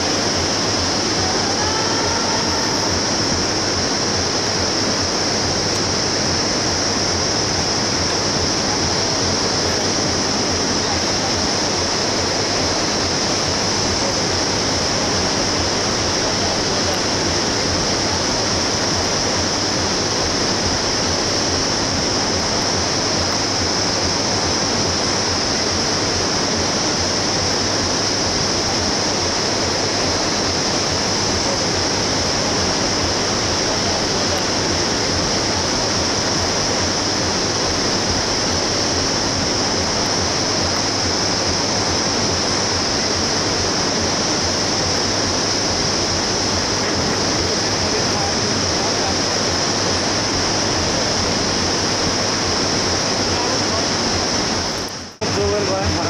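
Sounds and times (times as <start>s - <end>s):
whitewater rapids roaring: 0.0s - 56.0s.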